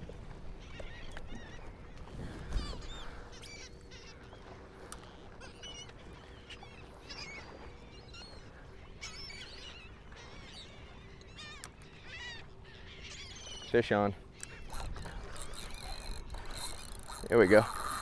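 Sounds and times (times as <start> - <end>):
seabirds calling: 0.0 - 18.0.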